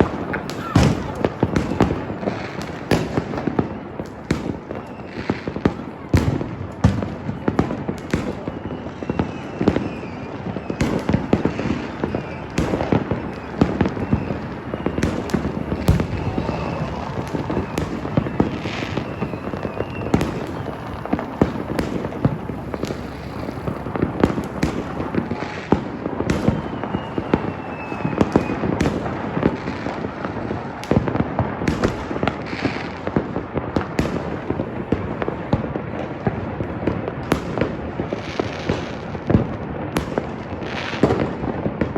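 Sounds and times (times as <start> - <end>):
faint firework whistles: 0.0 - 41.9
firecrackers crackling: 0.0 - 41.9
fireworks bangs: 0.0 - 41.9.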